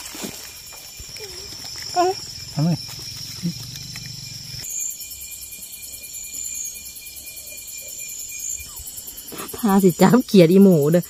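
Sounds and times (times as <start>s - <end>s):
night insects calling: 0.0s - 11.0s
pulsing insect trill: 0.0s - 11.0s.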